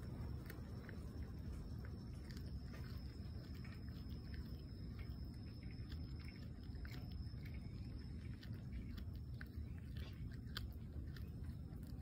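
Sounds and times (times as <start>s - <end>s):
cat chewing fish: 0.0s - 12.0s
low rumble: 0.0s - 12.0s.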